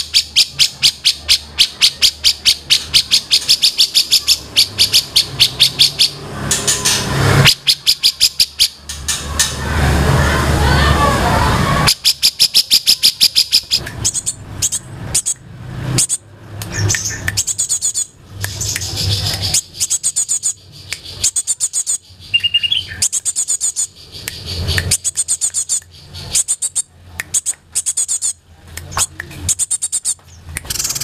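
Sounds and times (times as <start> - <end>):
songbirds chirping: 0.0 - 9.4, 11.8 - 31.0.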